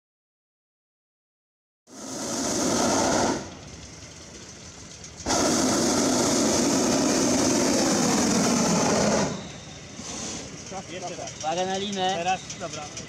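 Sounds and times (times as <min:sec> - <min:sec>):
propane burner roaring: 0:01.9 - 0:13.0.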